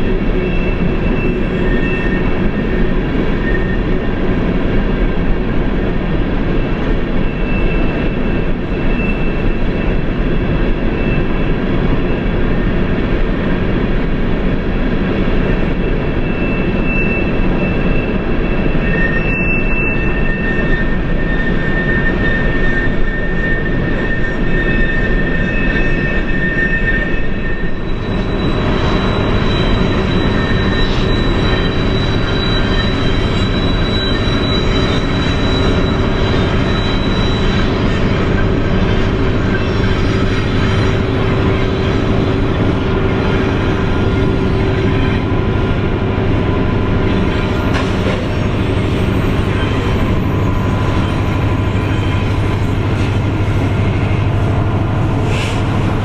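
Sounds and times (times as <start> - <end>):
diesel locomotives under load: 0.0 - 56.0
rumble of freight cars on rails: 0.0 - 56.0
steady whine: 0.0 - 56.0.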